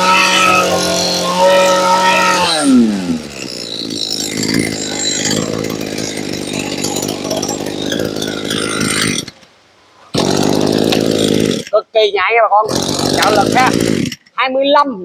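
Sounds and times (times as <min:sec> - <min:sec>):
brush cutter engine idling: 0:00.0 - 0:11.8, 0:12.7 - 0:14.4.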